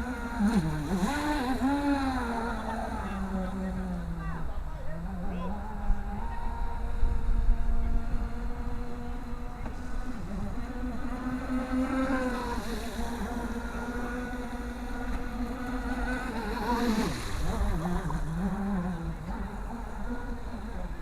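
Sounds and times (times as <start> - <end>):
model boat motor whining: 0.0 - 21.0.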